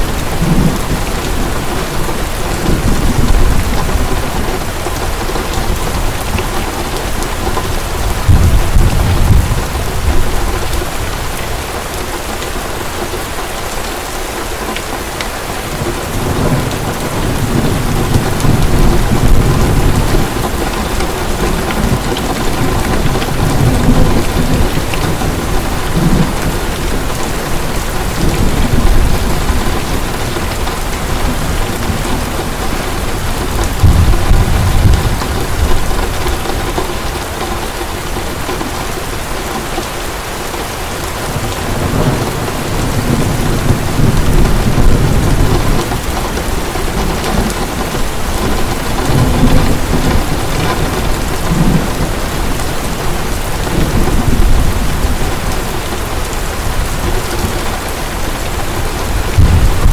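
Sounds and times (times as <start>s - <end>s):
low thunder rumbling: 0.0s - 12.1s, 15.6s - 39.7s, 41.0s - 59.9s
heavy rain pouring: 0.0s - 59.9s.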